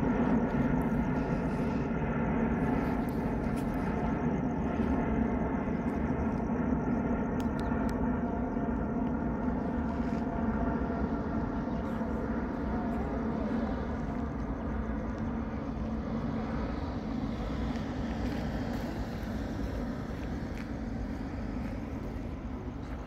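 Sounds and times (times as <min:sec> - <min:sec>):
faint steady engine tones: 0:00.0 - 0:23.0
jet engine rumble: 0:00.0 - 0:23.0.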